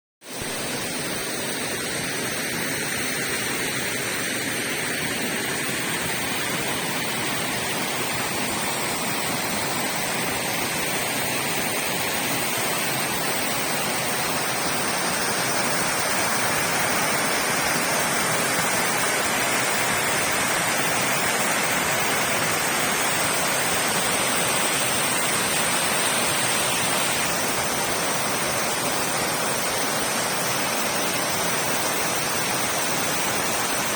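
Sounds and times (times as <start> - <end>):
waterfall pouring: 5.5 - 33.9.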